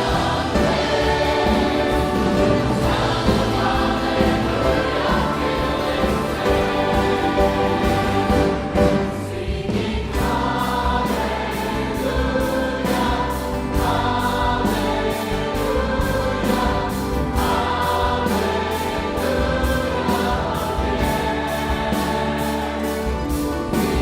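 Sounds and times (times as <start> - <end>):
choir singing with orchestra: 0.0 - 24.0.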